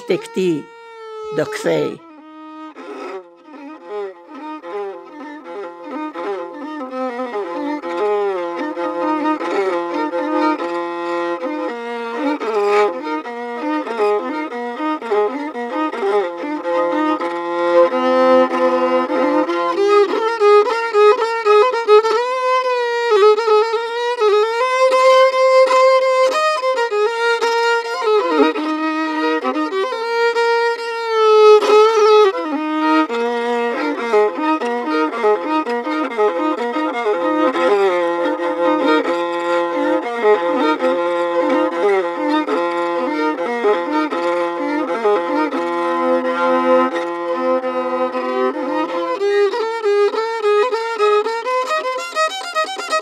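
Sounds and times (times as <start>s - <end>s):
slow violin melody: 0.0s - 53.0s.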